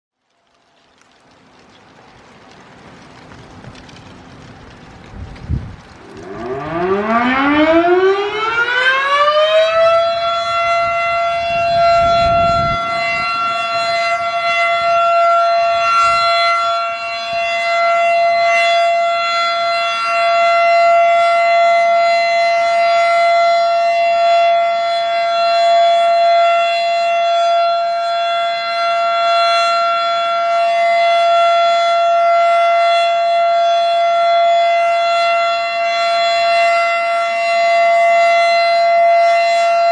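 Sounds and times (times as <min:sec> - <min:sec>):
warning siren winding up: 0:06.0 - 0:39.9.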